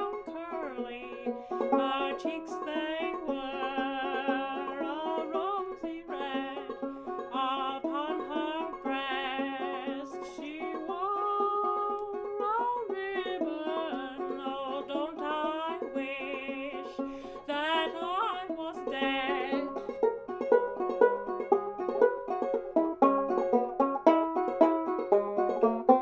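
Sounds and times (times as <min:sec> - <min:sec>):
woman singing folk melody: 0:00.0 - 0:21.9
plucked banjo-like instrument: 0:00.0 - 0:26.0.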